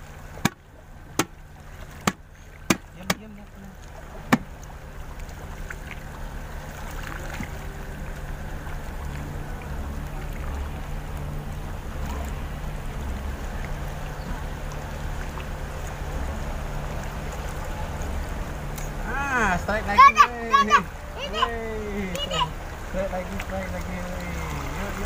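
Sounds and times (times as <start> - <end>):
low engine drone: 0.0 - 25.0.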